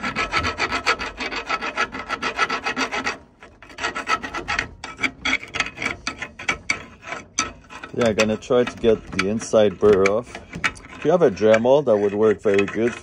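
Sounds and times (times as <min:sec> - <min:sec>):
hand file rasping on metal: 0:00.0 - 0:13.0.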